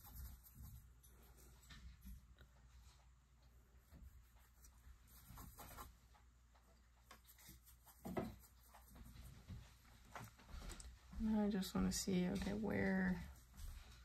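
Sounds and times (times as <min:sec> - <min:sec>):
paintbrush strokes: 0:00.0 - 0:14.0.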